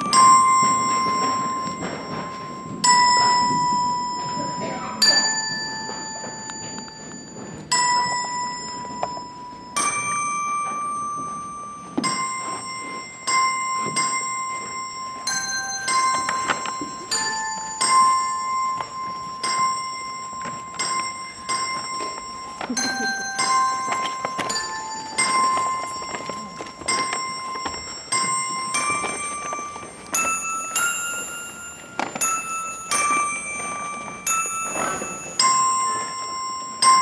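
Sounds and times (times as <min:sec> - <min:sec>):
bell-like notes in slow tune: 0:00.0 - 0:37.0.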